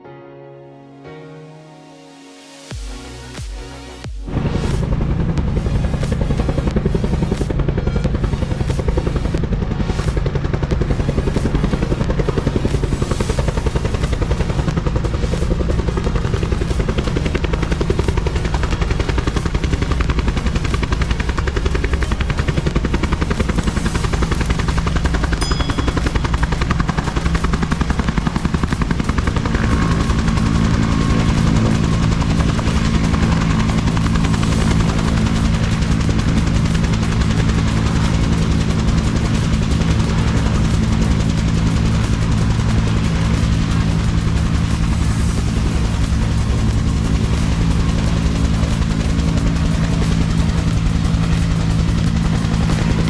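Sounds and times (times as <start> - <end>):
propeller plane engine running: 2.6 - 53.0.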